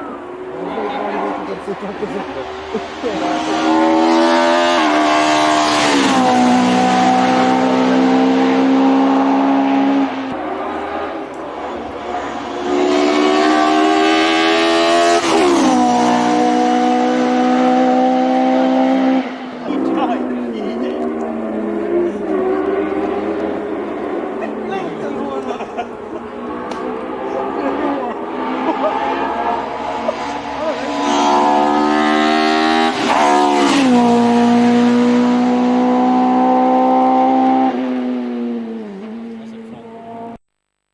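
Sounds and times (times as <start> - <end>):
race car engine accelerating: 0.0 - 40.8.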